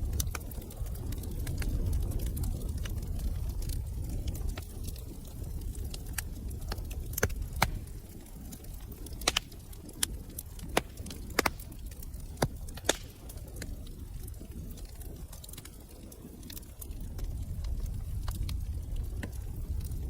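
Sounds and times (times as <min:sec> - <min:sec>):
rumble of fire flames: 0:00.0 - 0:20.0
wood fire crackles and pops: 0:00.0 - 0:20.0.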